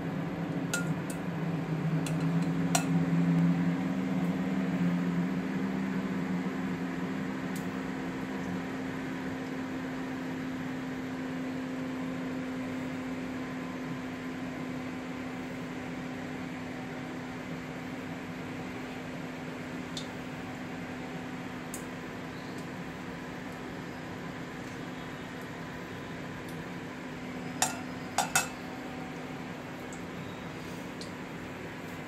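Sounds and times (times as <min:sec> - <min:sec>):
appliance fan humming: 0:00.0 - 0:32.0.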